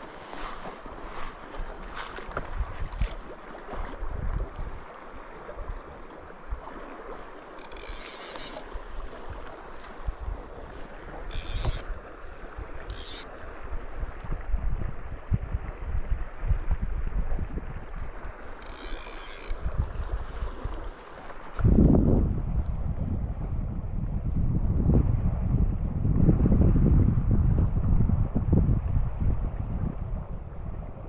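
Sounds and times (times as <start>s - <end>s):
wind buffeting microphone: 0.0s - 6.8s, 8.7s - 31.0s.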